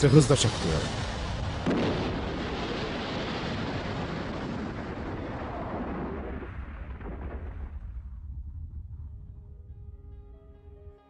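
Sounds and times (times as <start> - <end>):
airliner crash explosion and roar: 0.0 - 9.3.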